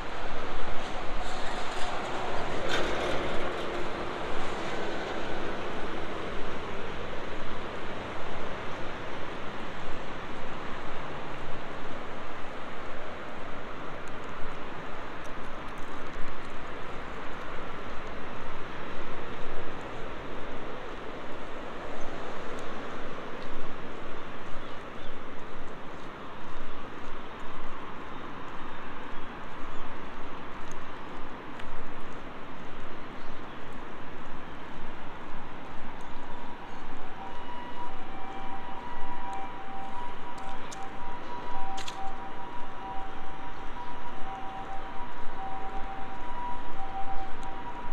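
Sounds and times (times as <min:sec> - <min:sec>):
road traffic hiss: 0:00.0 - 0:47.9.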